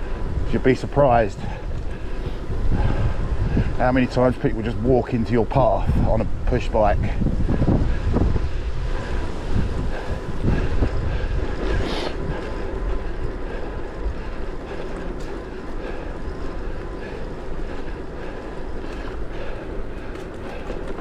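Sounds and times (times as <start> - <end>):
bike tyre and road noise: 0.0 - 21.0
wind buffeting microphone: 0.0 - 21.0.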